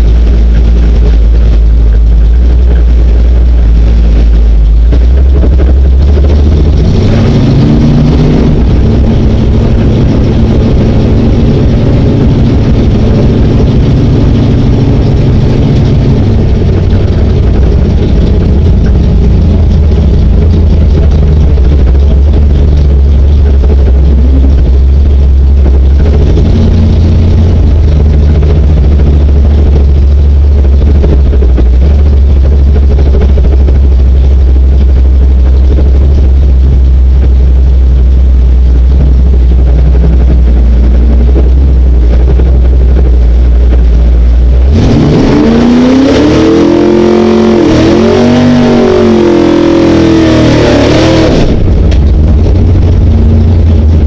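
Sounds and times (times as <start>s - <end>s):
car engine idling loudly: 0.0s - 54.0s
engine revving in blips: 0.0s - 54.0s.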